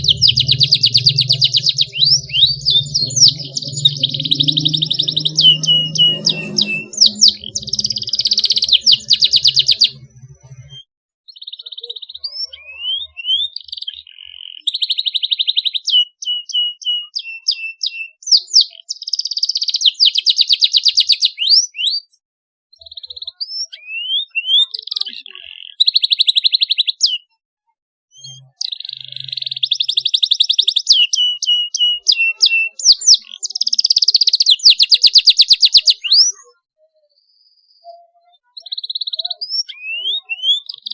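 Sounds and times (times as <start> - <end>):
canary singing trills: 0.0 - 27.4, 28.1 - 40.9.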